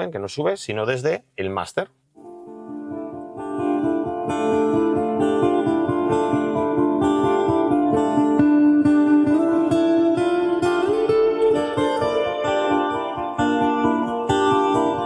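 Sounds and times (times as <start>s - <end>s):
guitar-led music: 2.2s - 15.0s.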